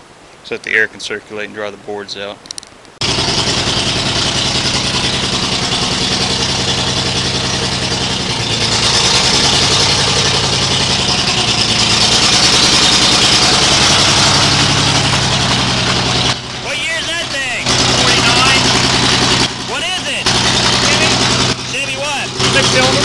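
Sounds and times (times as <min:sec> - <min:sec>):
engine running steadily: 0:03.0 - 0:23.0.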